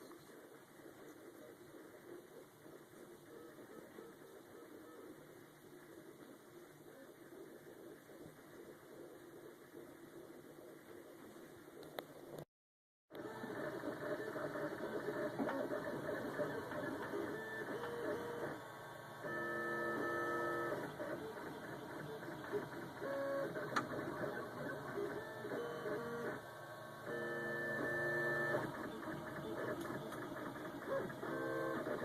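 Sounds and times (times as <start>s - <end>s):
mechanical hum: 0.0s - 12.4s, 13.1s - 32.0s.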